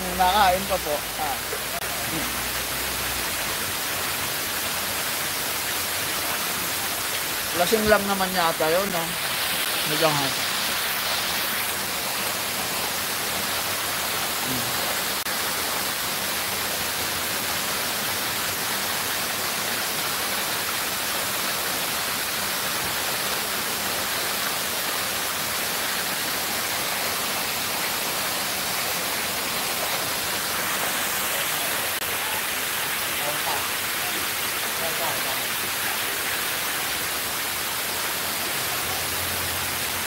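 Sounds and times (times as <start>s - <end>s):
water cascading down fountain: 0.0s - 40.0s.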